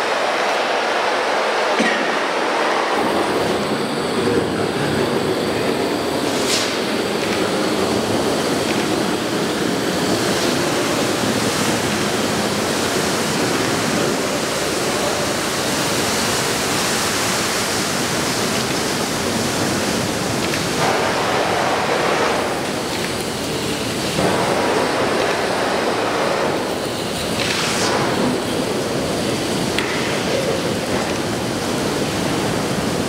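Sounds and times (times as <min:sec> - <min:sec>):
roaring flame hiss: 0:00.0 - 0:33.0.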